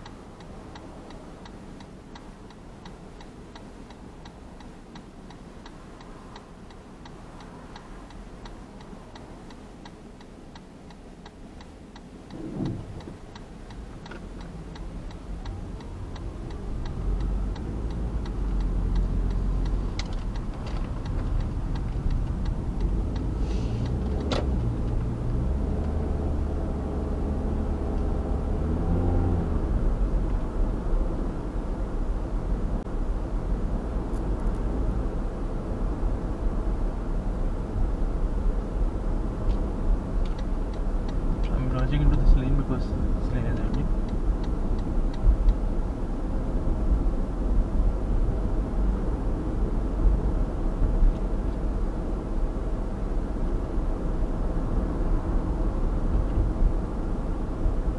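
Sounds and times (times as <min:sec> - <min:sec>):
car accelerating with tyre noise: 0:10.9 - 0:57.9.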